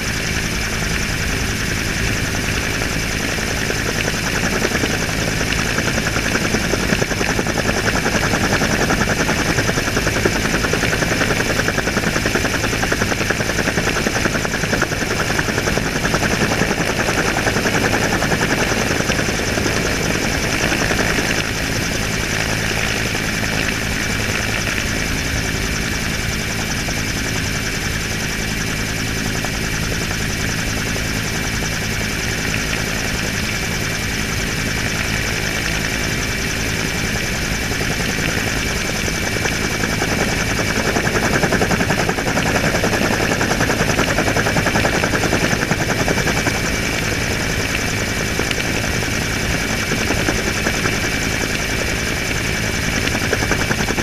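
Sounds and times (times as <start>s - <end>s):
helicopter rotor chop: 0.0s - 54.0s
helicopter turbine whine: 0.0s - 54.0s.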